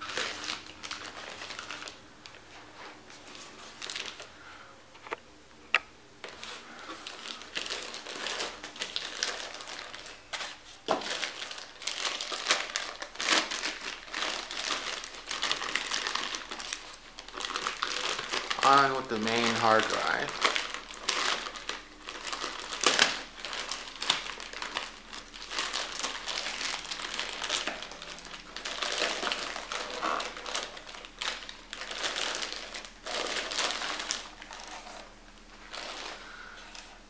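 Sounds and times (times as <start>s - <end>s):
packaging crinkling and rustling: 0.0s - 4.3s, 6.2s - 37.0s.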